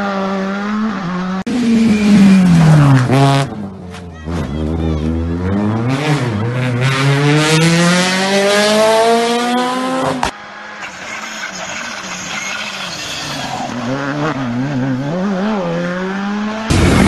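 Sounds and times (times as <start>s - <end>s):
distant rally car approaching: 0.0s - 17.0s
rally car engine pulling hard: 0.0s - 17.0s.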